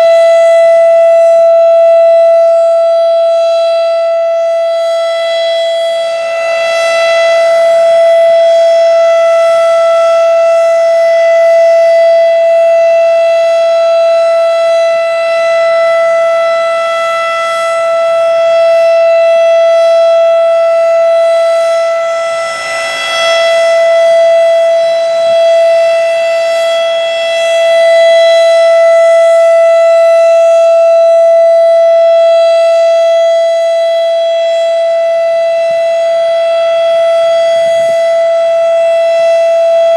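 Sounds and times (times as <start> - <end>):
siren steady tone: 0.0 - 39.9.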